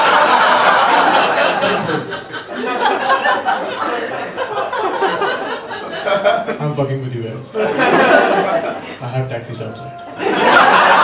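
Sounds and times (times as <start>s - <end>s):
audience laughing: 0.0s - 6.8s, 7.5s - 9.0s, 10.1s - 11.0s.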